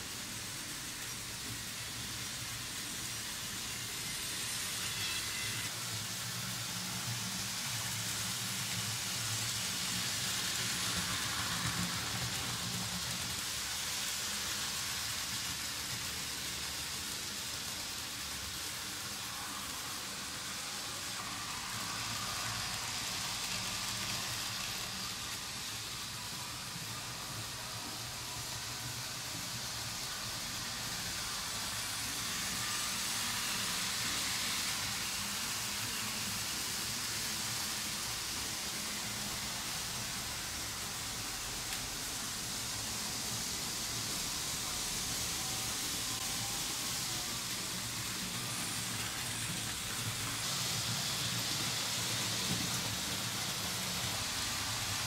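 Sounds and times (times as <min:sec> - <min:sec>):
model train wheels rolling on rails: 0:00.0 - 0:55.0.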